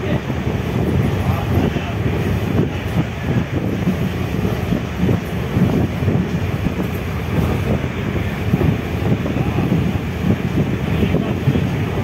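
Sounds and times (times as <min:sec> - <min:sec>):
train wheels rumbling on track: 0:00.0 - 0:12.0
wind rushing past: 0:00.0 - 0:12.0.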